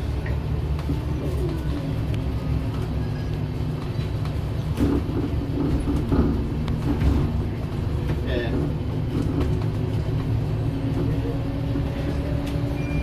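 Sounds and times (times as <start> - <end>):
bus engine drone: 0.0 - 13.0
road noise: 0.0 - 13.0
body rattles and ticks: 0.4 - 12.6.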